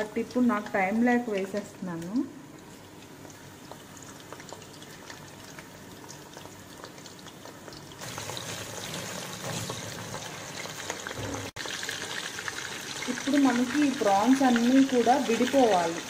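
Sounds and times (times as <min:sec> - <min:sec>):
deep-frying sizzle with crackles: 0:00.0 - 0:16.0.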